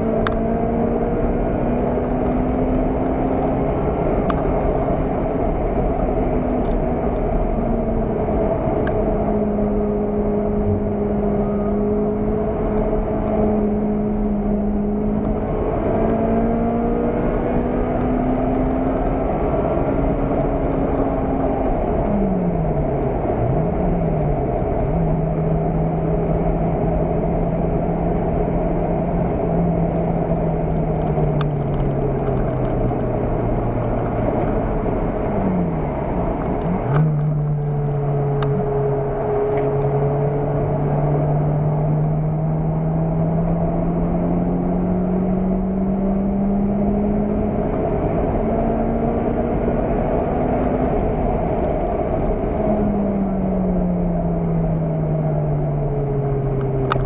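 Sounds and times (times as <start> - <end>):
car engine from inside cabin: 0.0 - 57.0
tyre and road noise: 0.0 - 57.0.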